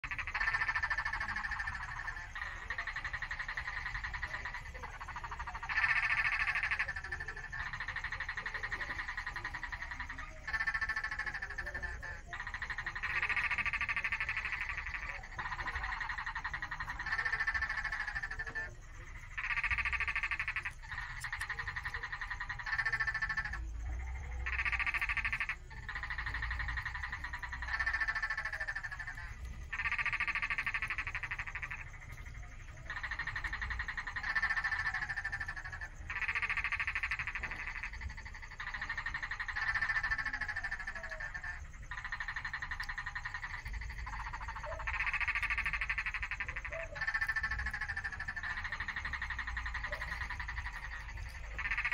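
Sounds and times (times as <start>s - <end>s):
trilling animal calls: 0.0s - 51.9s.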